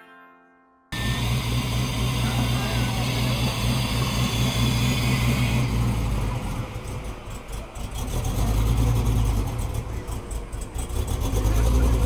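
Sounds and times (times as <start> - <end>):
car engine rumbling: 1.0 - 12.0.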